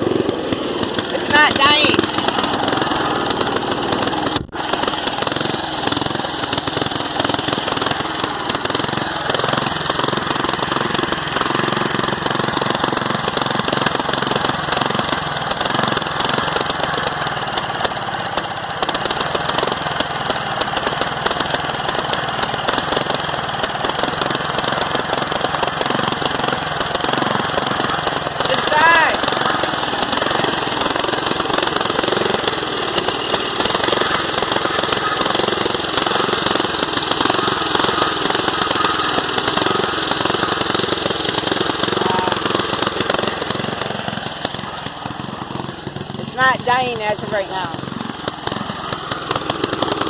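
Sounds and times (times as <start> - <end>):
riding mower engine running: 0.0 - 50.0.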